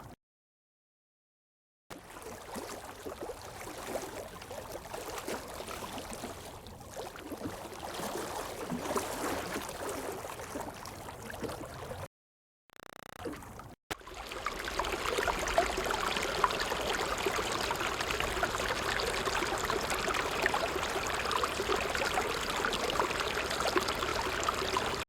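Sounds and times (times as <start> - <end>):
water splashing and gurgling: 1.9 - 12.1, 13.1 - 25.0.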